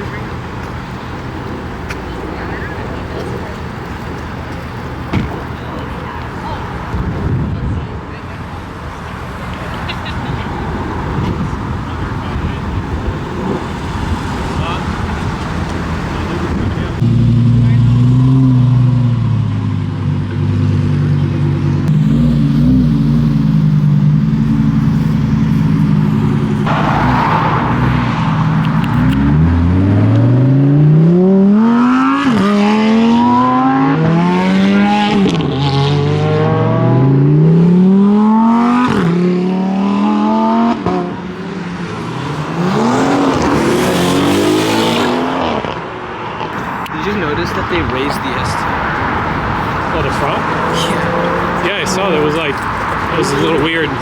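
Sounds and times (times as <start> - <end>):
sports car engine revving: 8.5 - 54.0.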